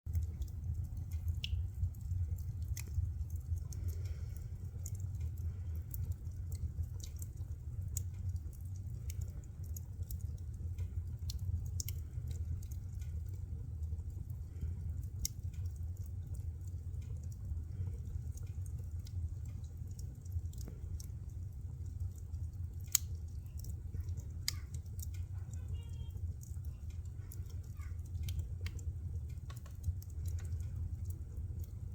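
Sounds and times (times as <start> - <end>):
firewood crackling and popping: 0.1 - 31.9.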